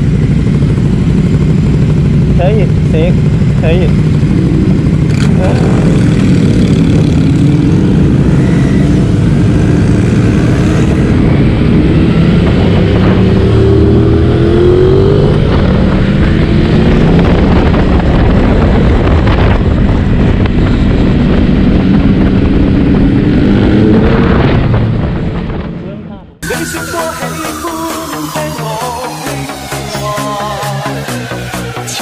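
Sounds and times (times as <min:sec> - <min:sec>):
wind rumble on microphone: 0:00.0 - 0:26.4
motorcycle engines accelerating: 0:00.0 - 0:32.0.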